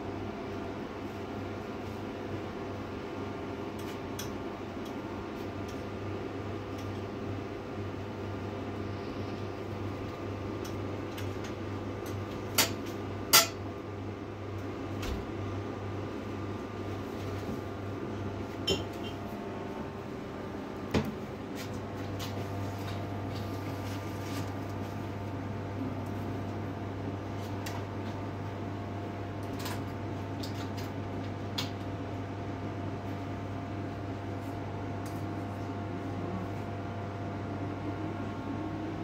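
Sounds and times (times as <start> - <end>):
refrigerators humming: 0.0 - 39.0.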